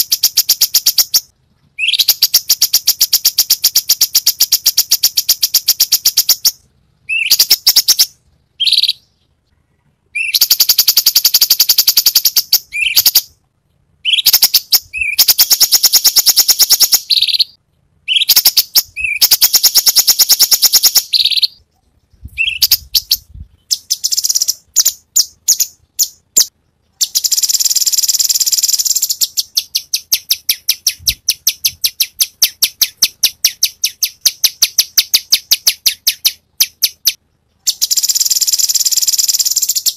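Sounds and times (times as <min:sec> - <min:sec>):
songbird rapid repeated notes: 0:00.0 - 0:09.1, 0:10.2 - 0:13.4, 0:14.0 - 0:39.9.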